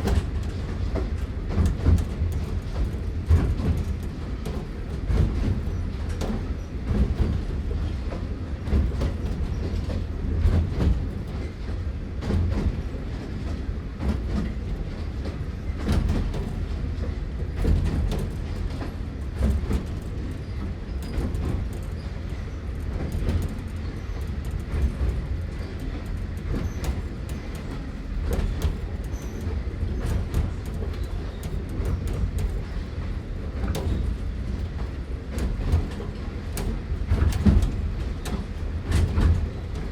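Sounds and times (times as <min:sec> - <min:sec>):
running gear clicking and knocking: 0:00.0 - 0:13.4, 0:14.1 - 0:39.9
steam train rumbling: 0:00.0 - 0:39.9.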